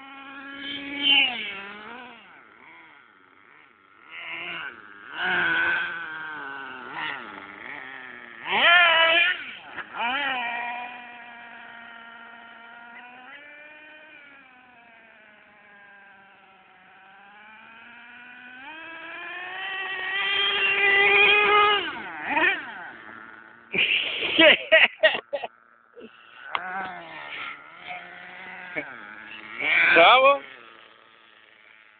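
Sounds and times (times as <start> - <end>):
small nitro engine revving: 0.0 - 31.9.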